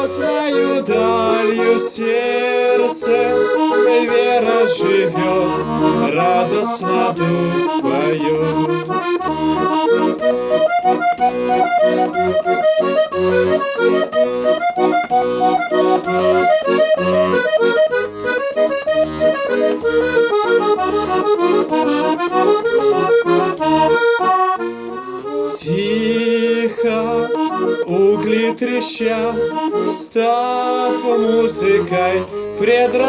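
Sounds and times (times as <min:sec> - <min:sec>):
accordion playing hymn tune: 0:00.0 - 0:33.0.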